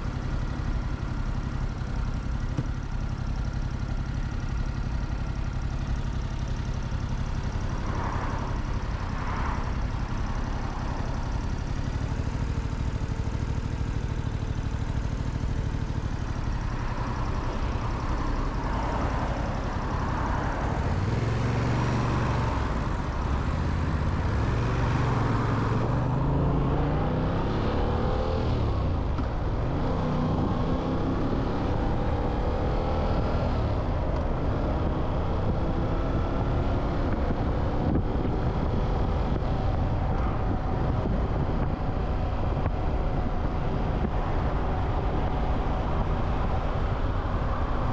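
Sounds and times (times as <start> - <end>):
city traffic: 0.0 - 47.9
motorcycle engine accelerating: 0.0 - 47.9.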